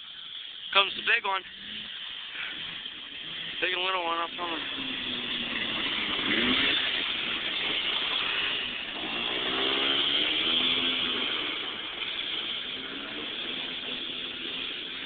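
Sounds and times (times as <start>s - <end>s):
snowmobile engine revving: 0.0s - 15.0s
steady rushing noise: 0.0s - 15.0s.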